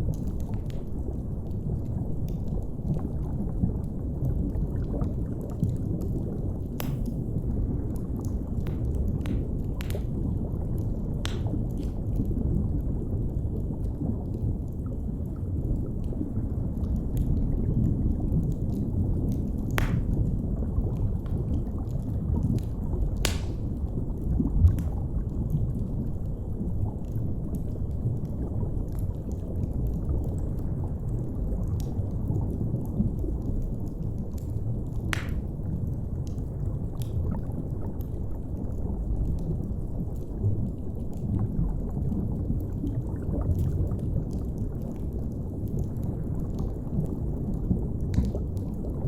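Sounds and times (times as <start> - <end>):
fire crackles: 0.0 - 49.0
underwater low rumble: 0.0 - 49.0.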